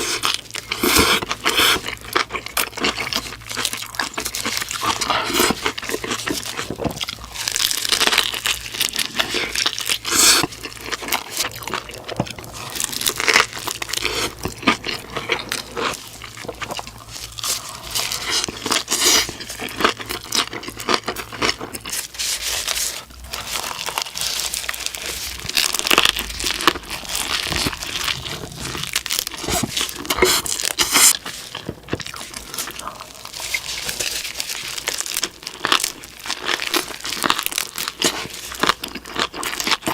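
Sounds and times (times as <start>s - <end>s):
person biting and chewing food: 0.0s - 39.9s.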